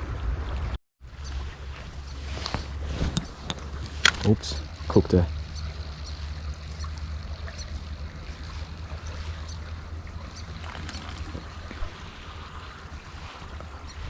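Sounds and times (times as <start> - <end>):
creek water running: 1.1 - 14.0.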